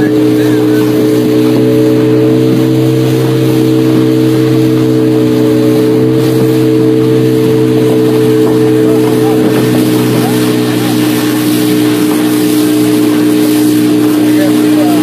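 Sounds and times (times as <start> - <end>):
outboard motor running: 0.0 - 15.0
rushing water noise: 0.0 - 15.0.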